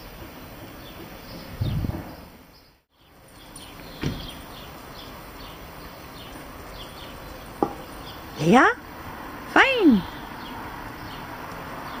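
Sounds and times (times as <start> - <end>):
small birds chirping: 0.6 - 12.0.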